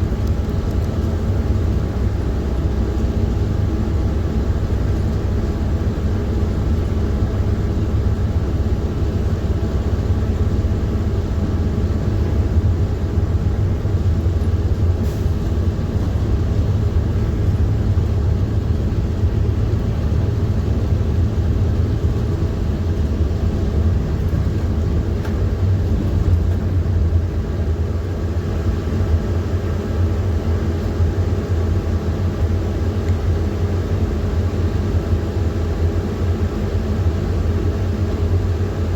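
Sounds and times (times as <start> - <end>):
bus engine and road rumble: 0.0 - 38.9.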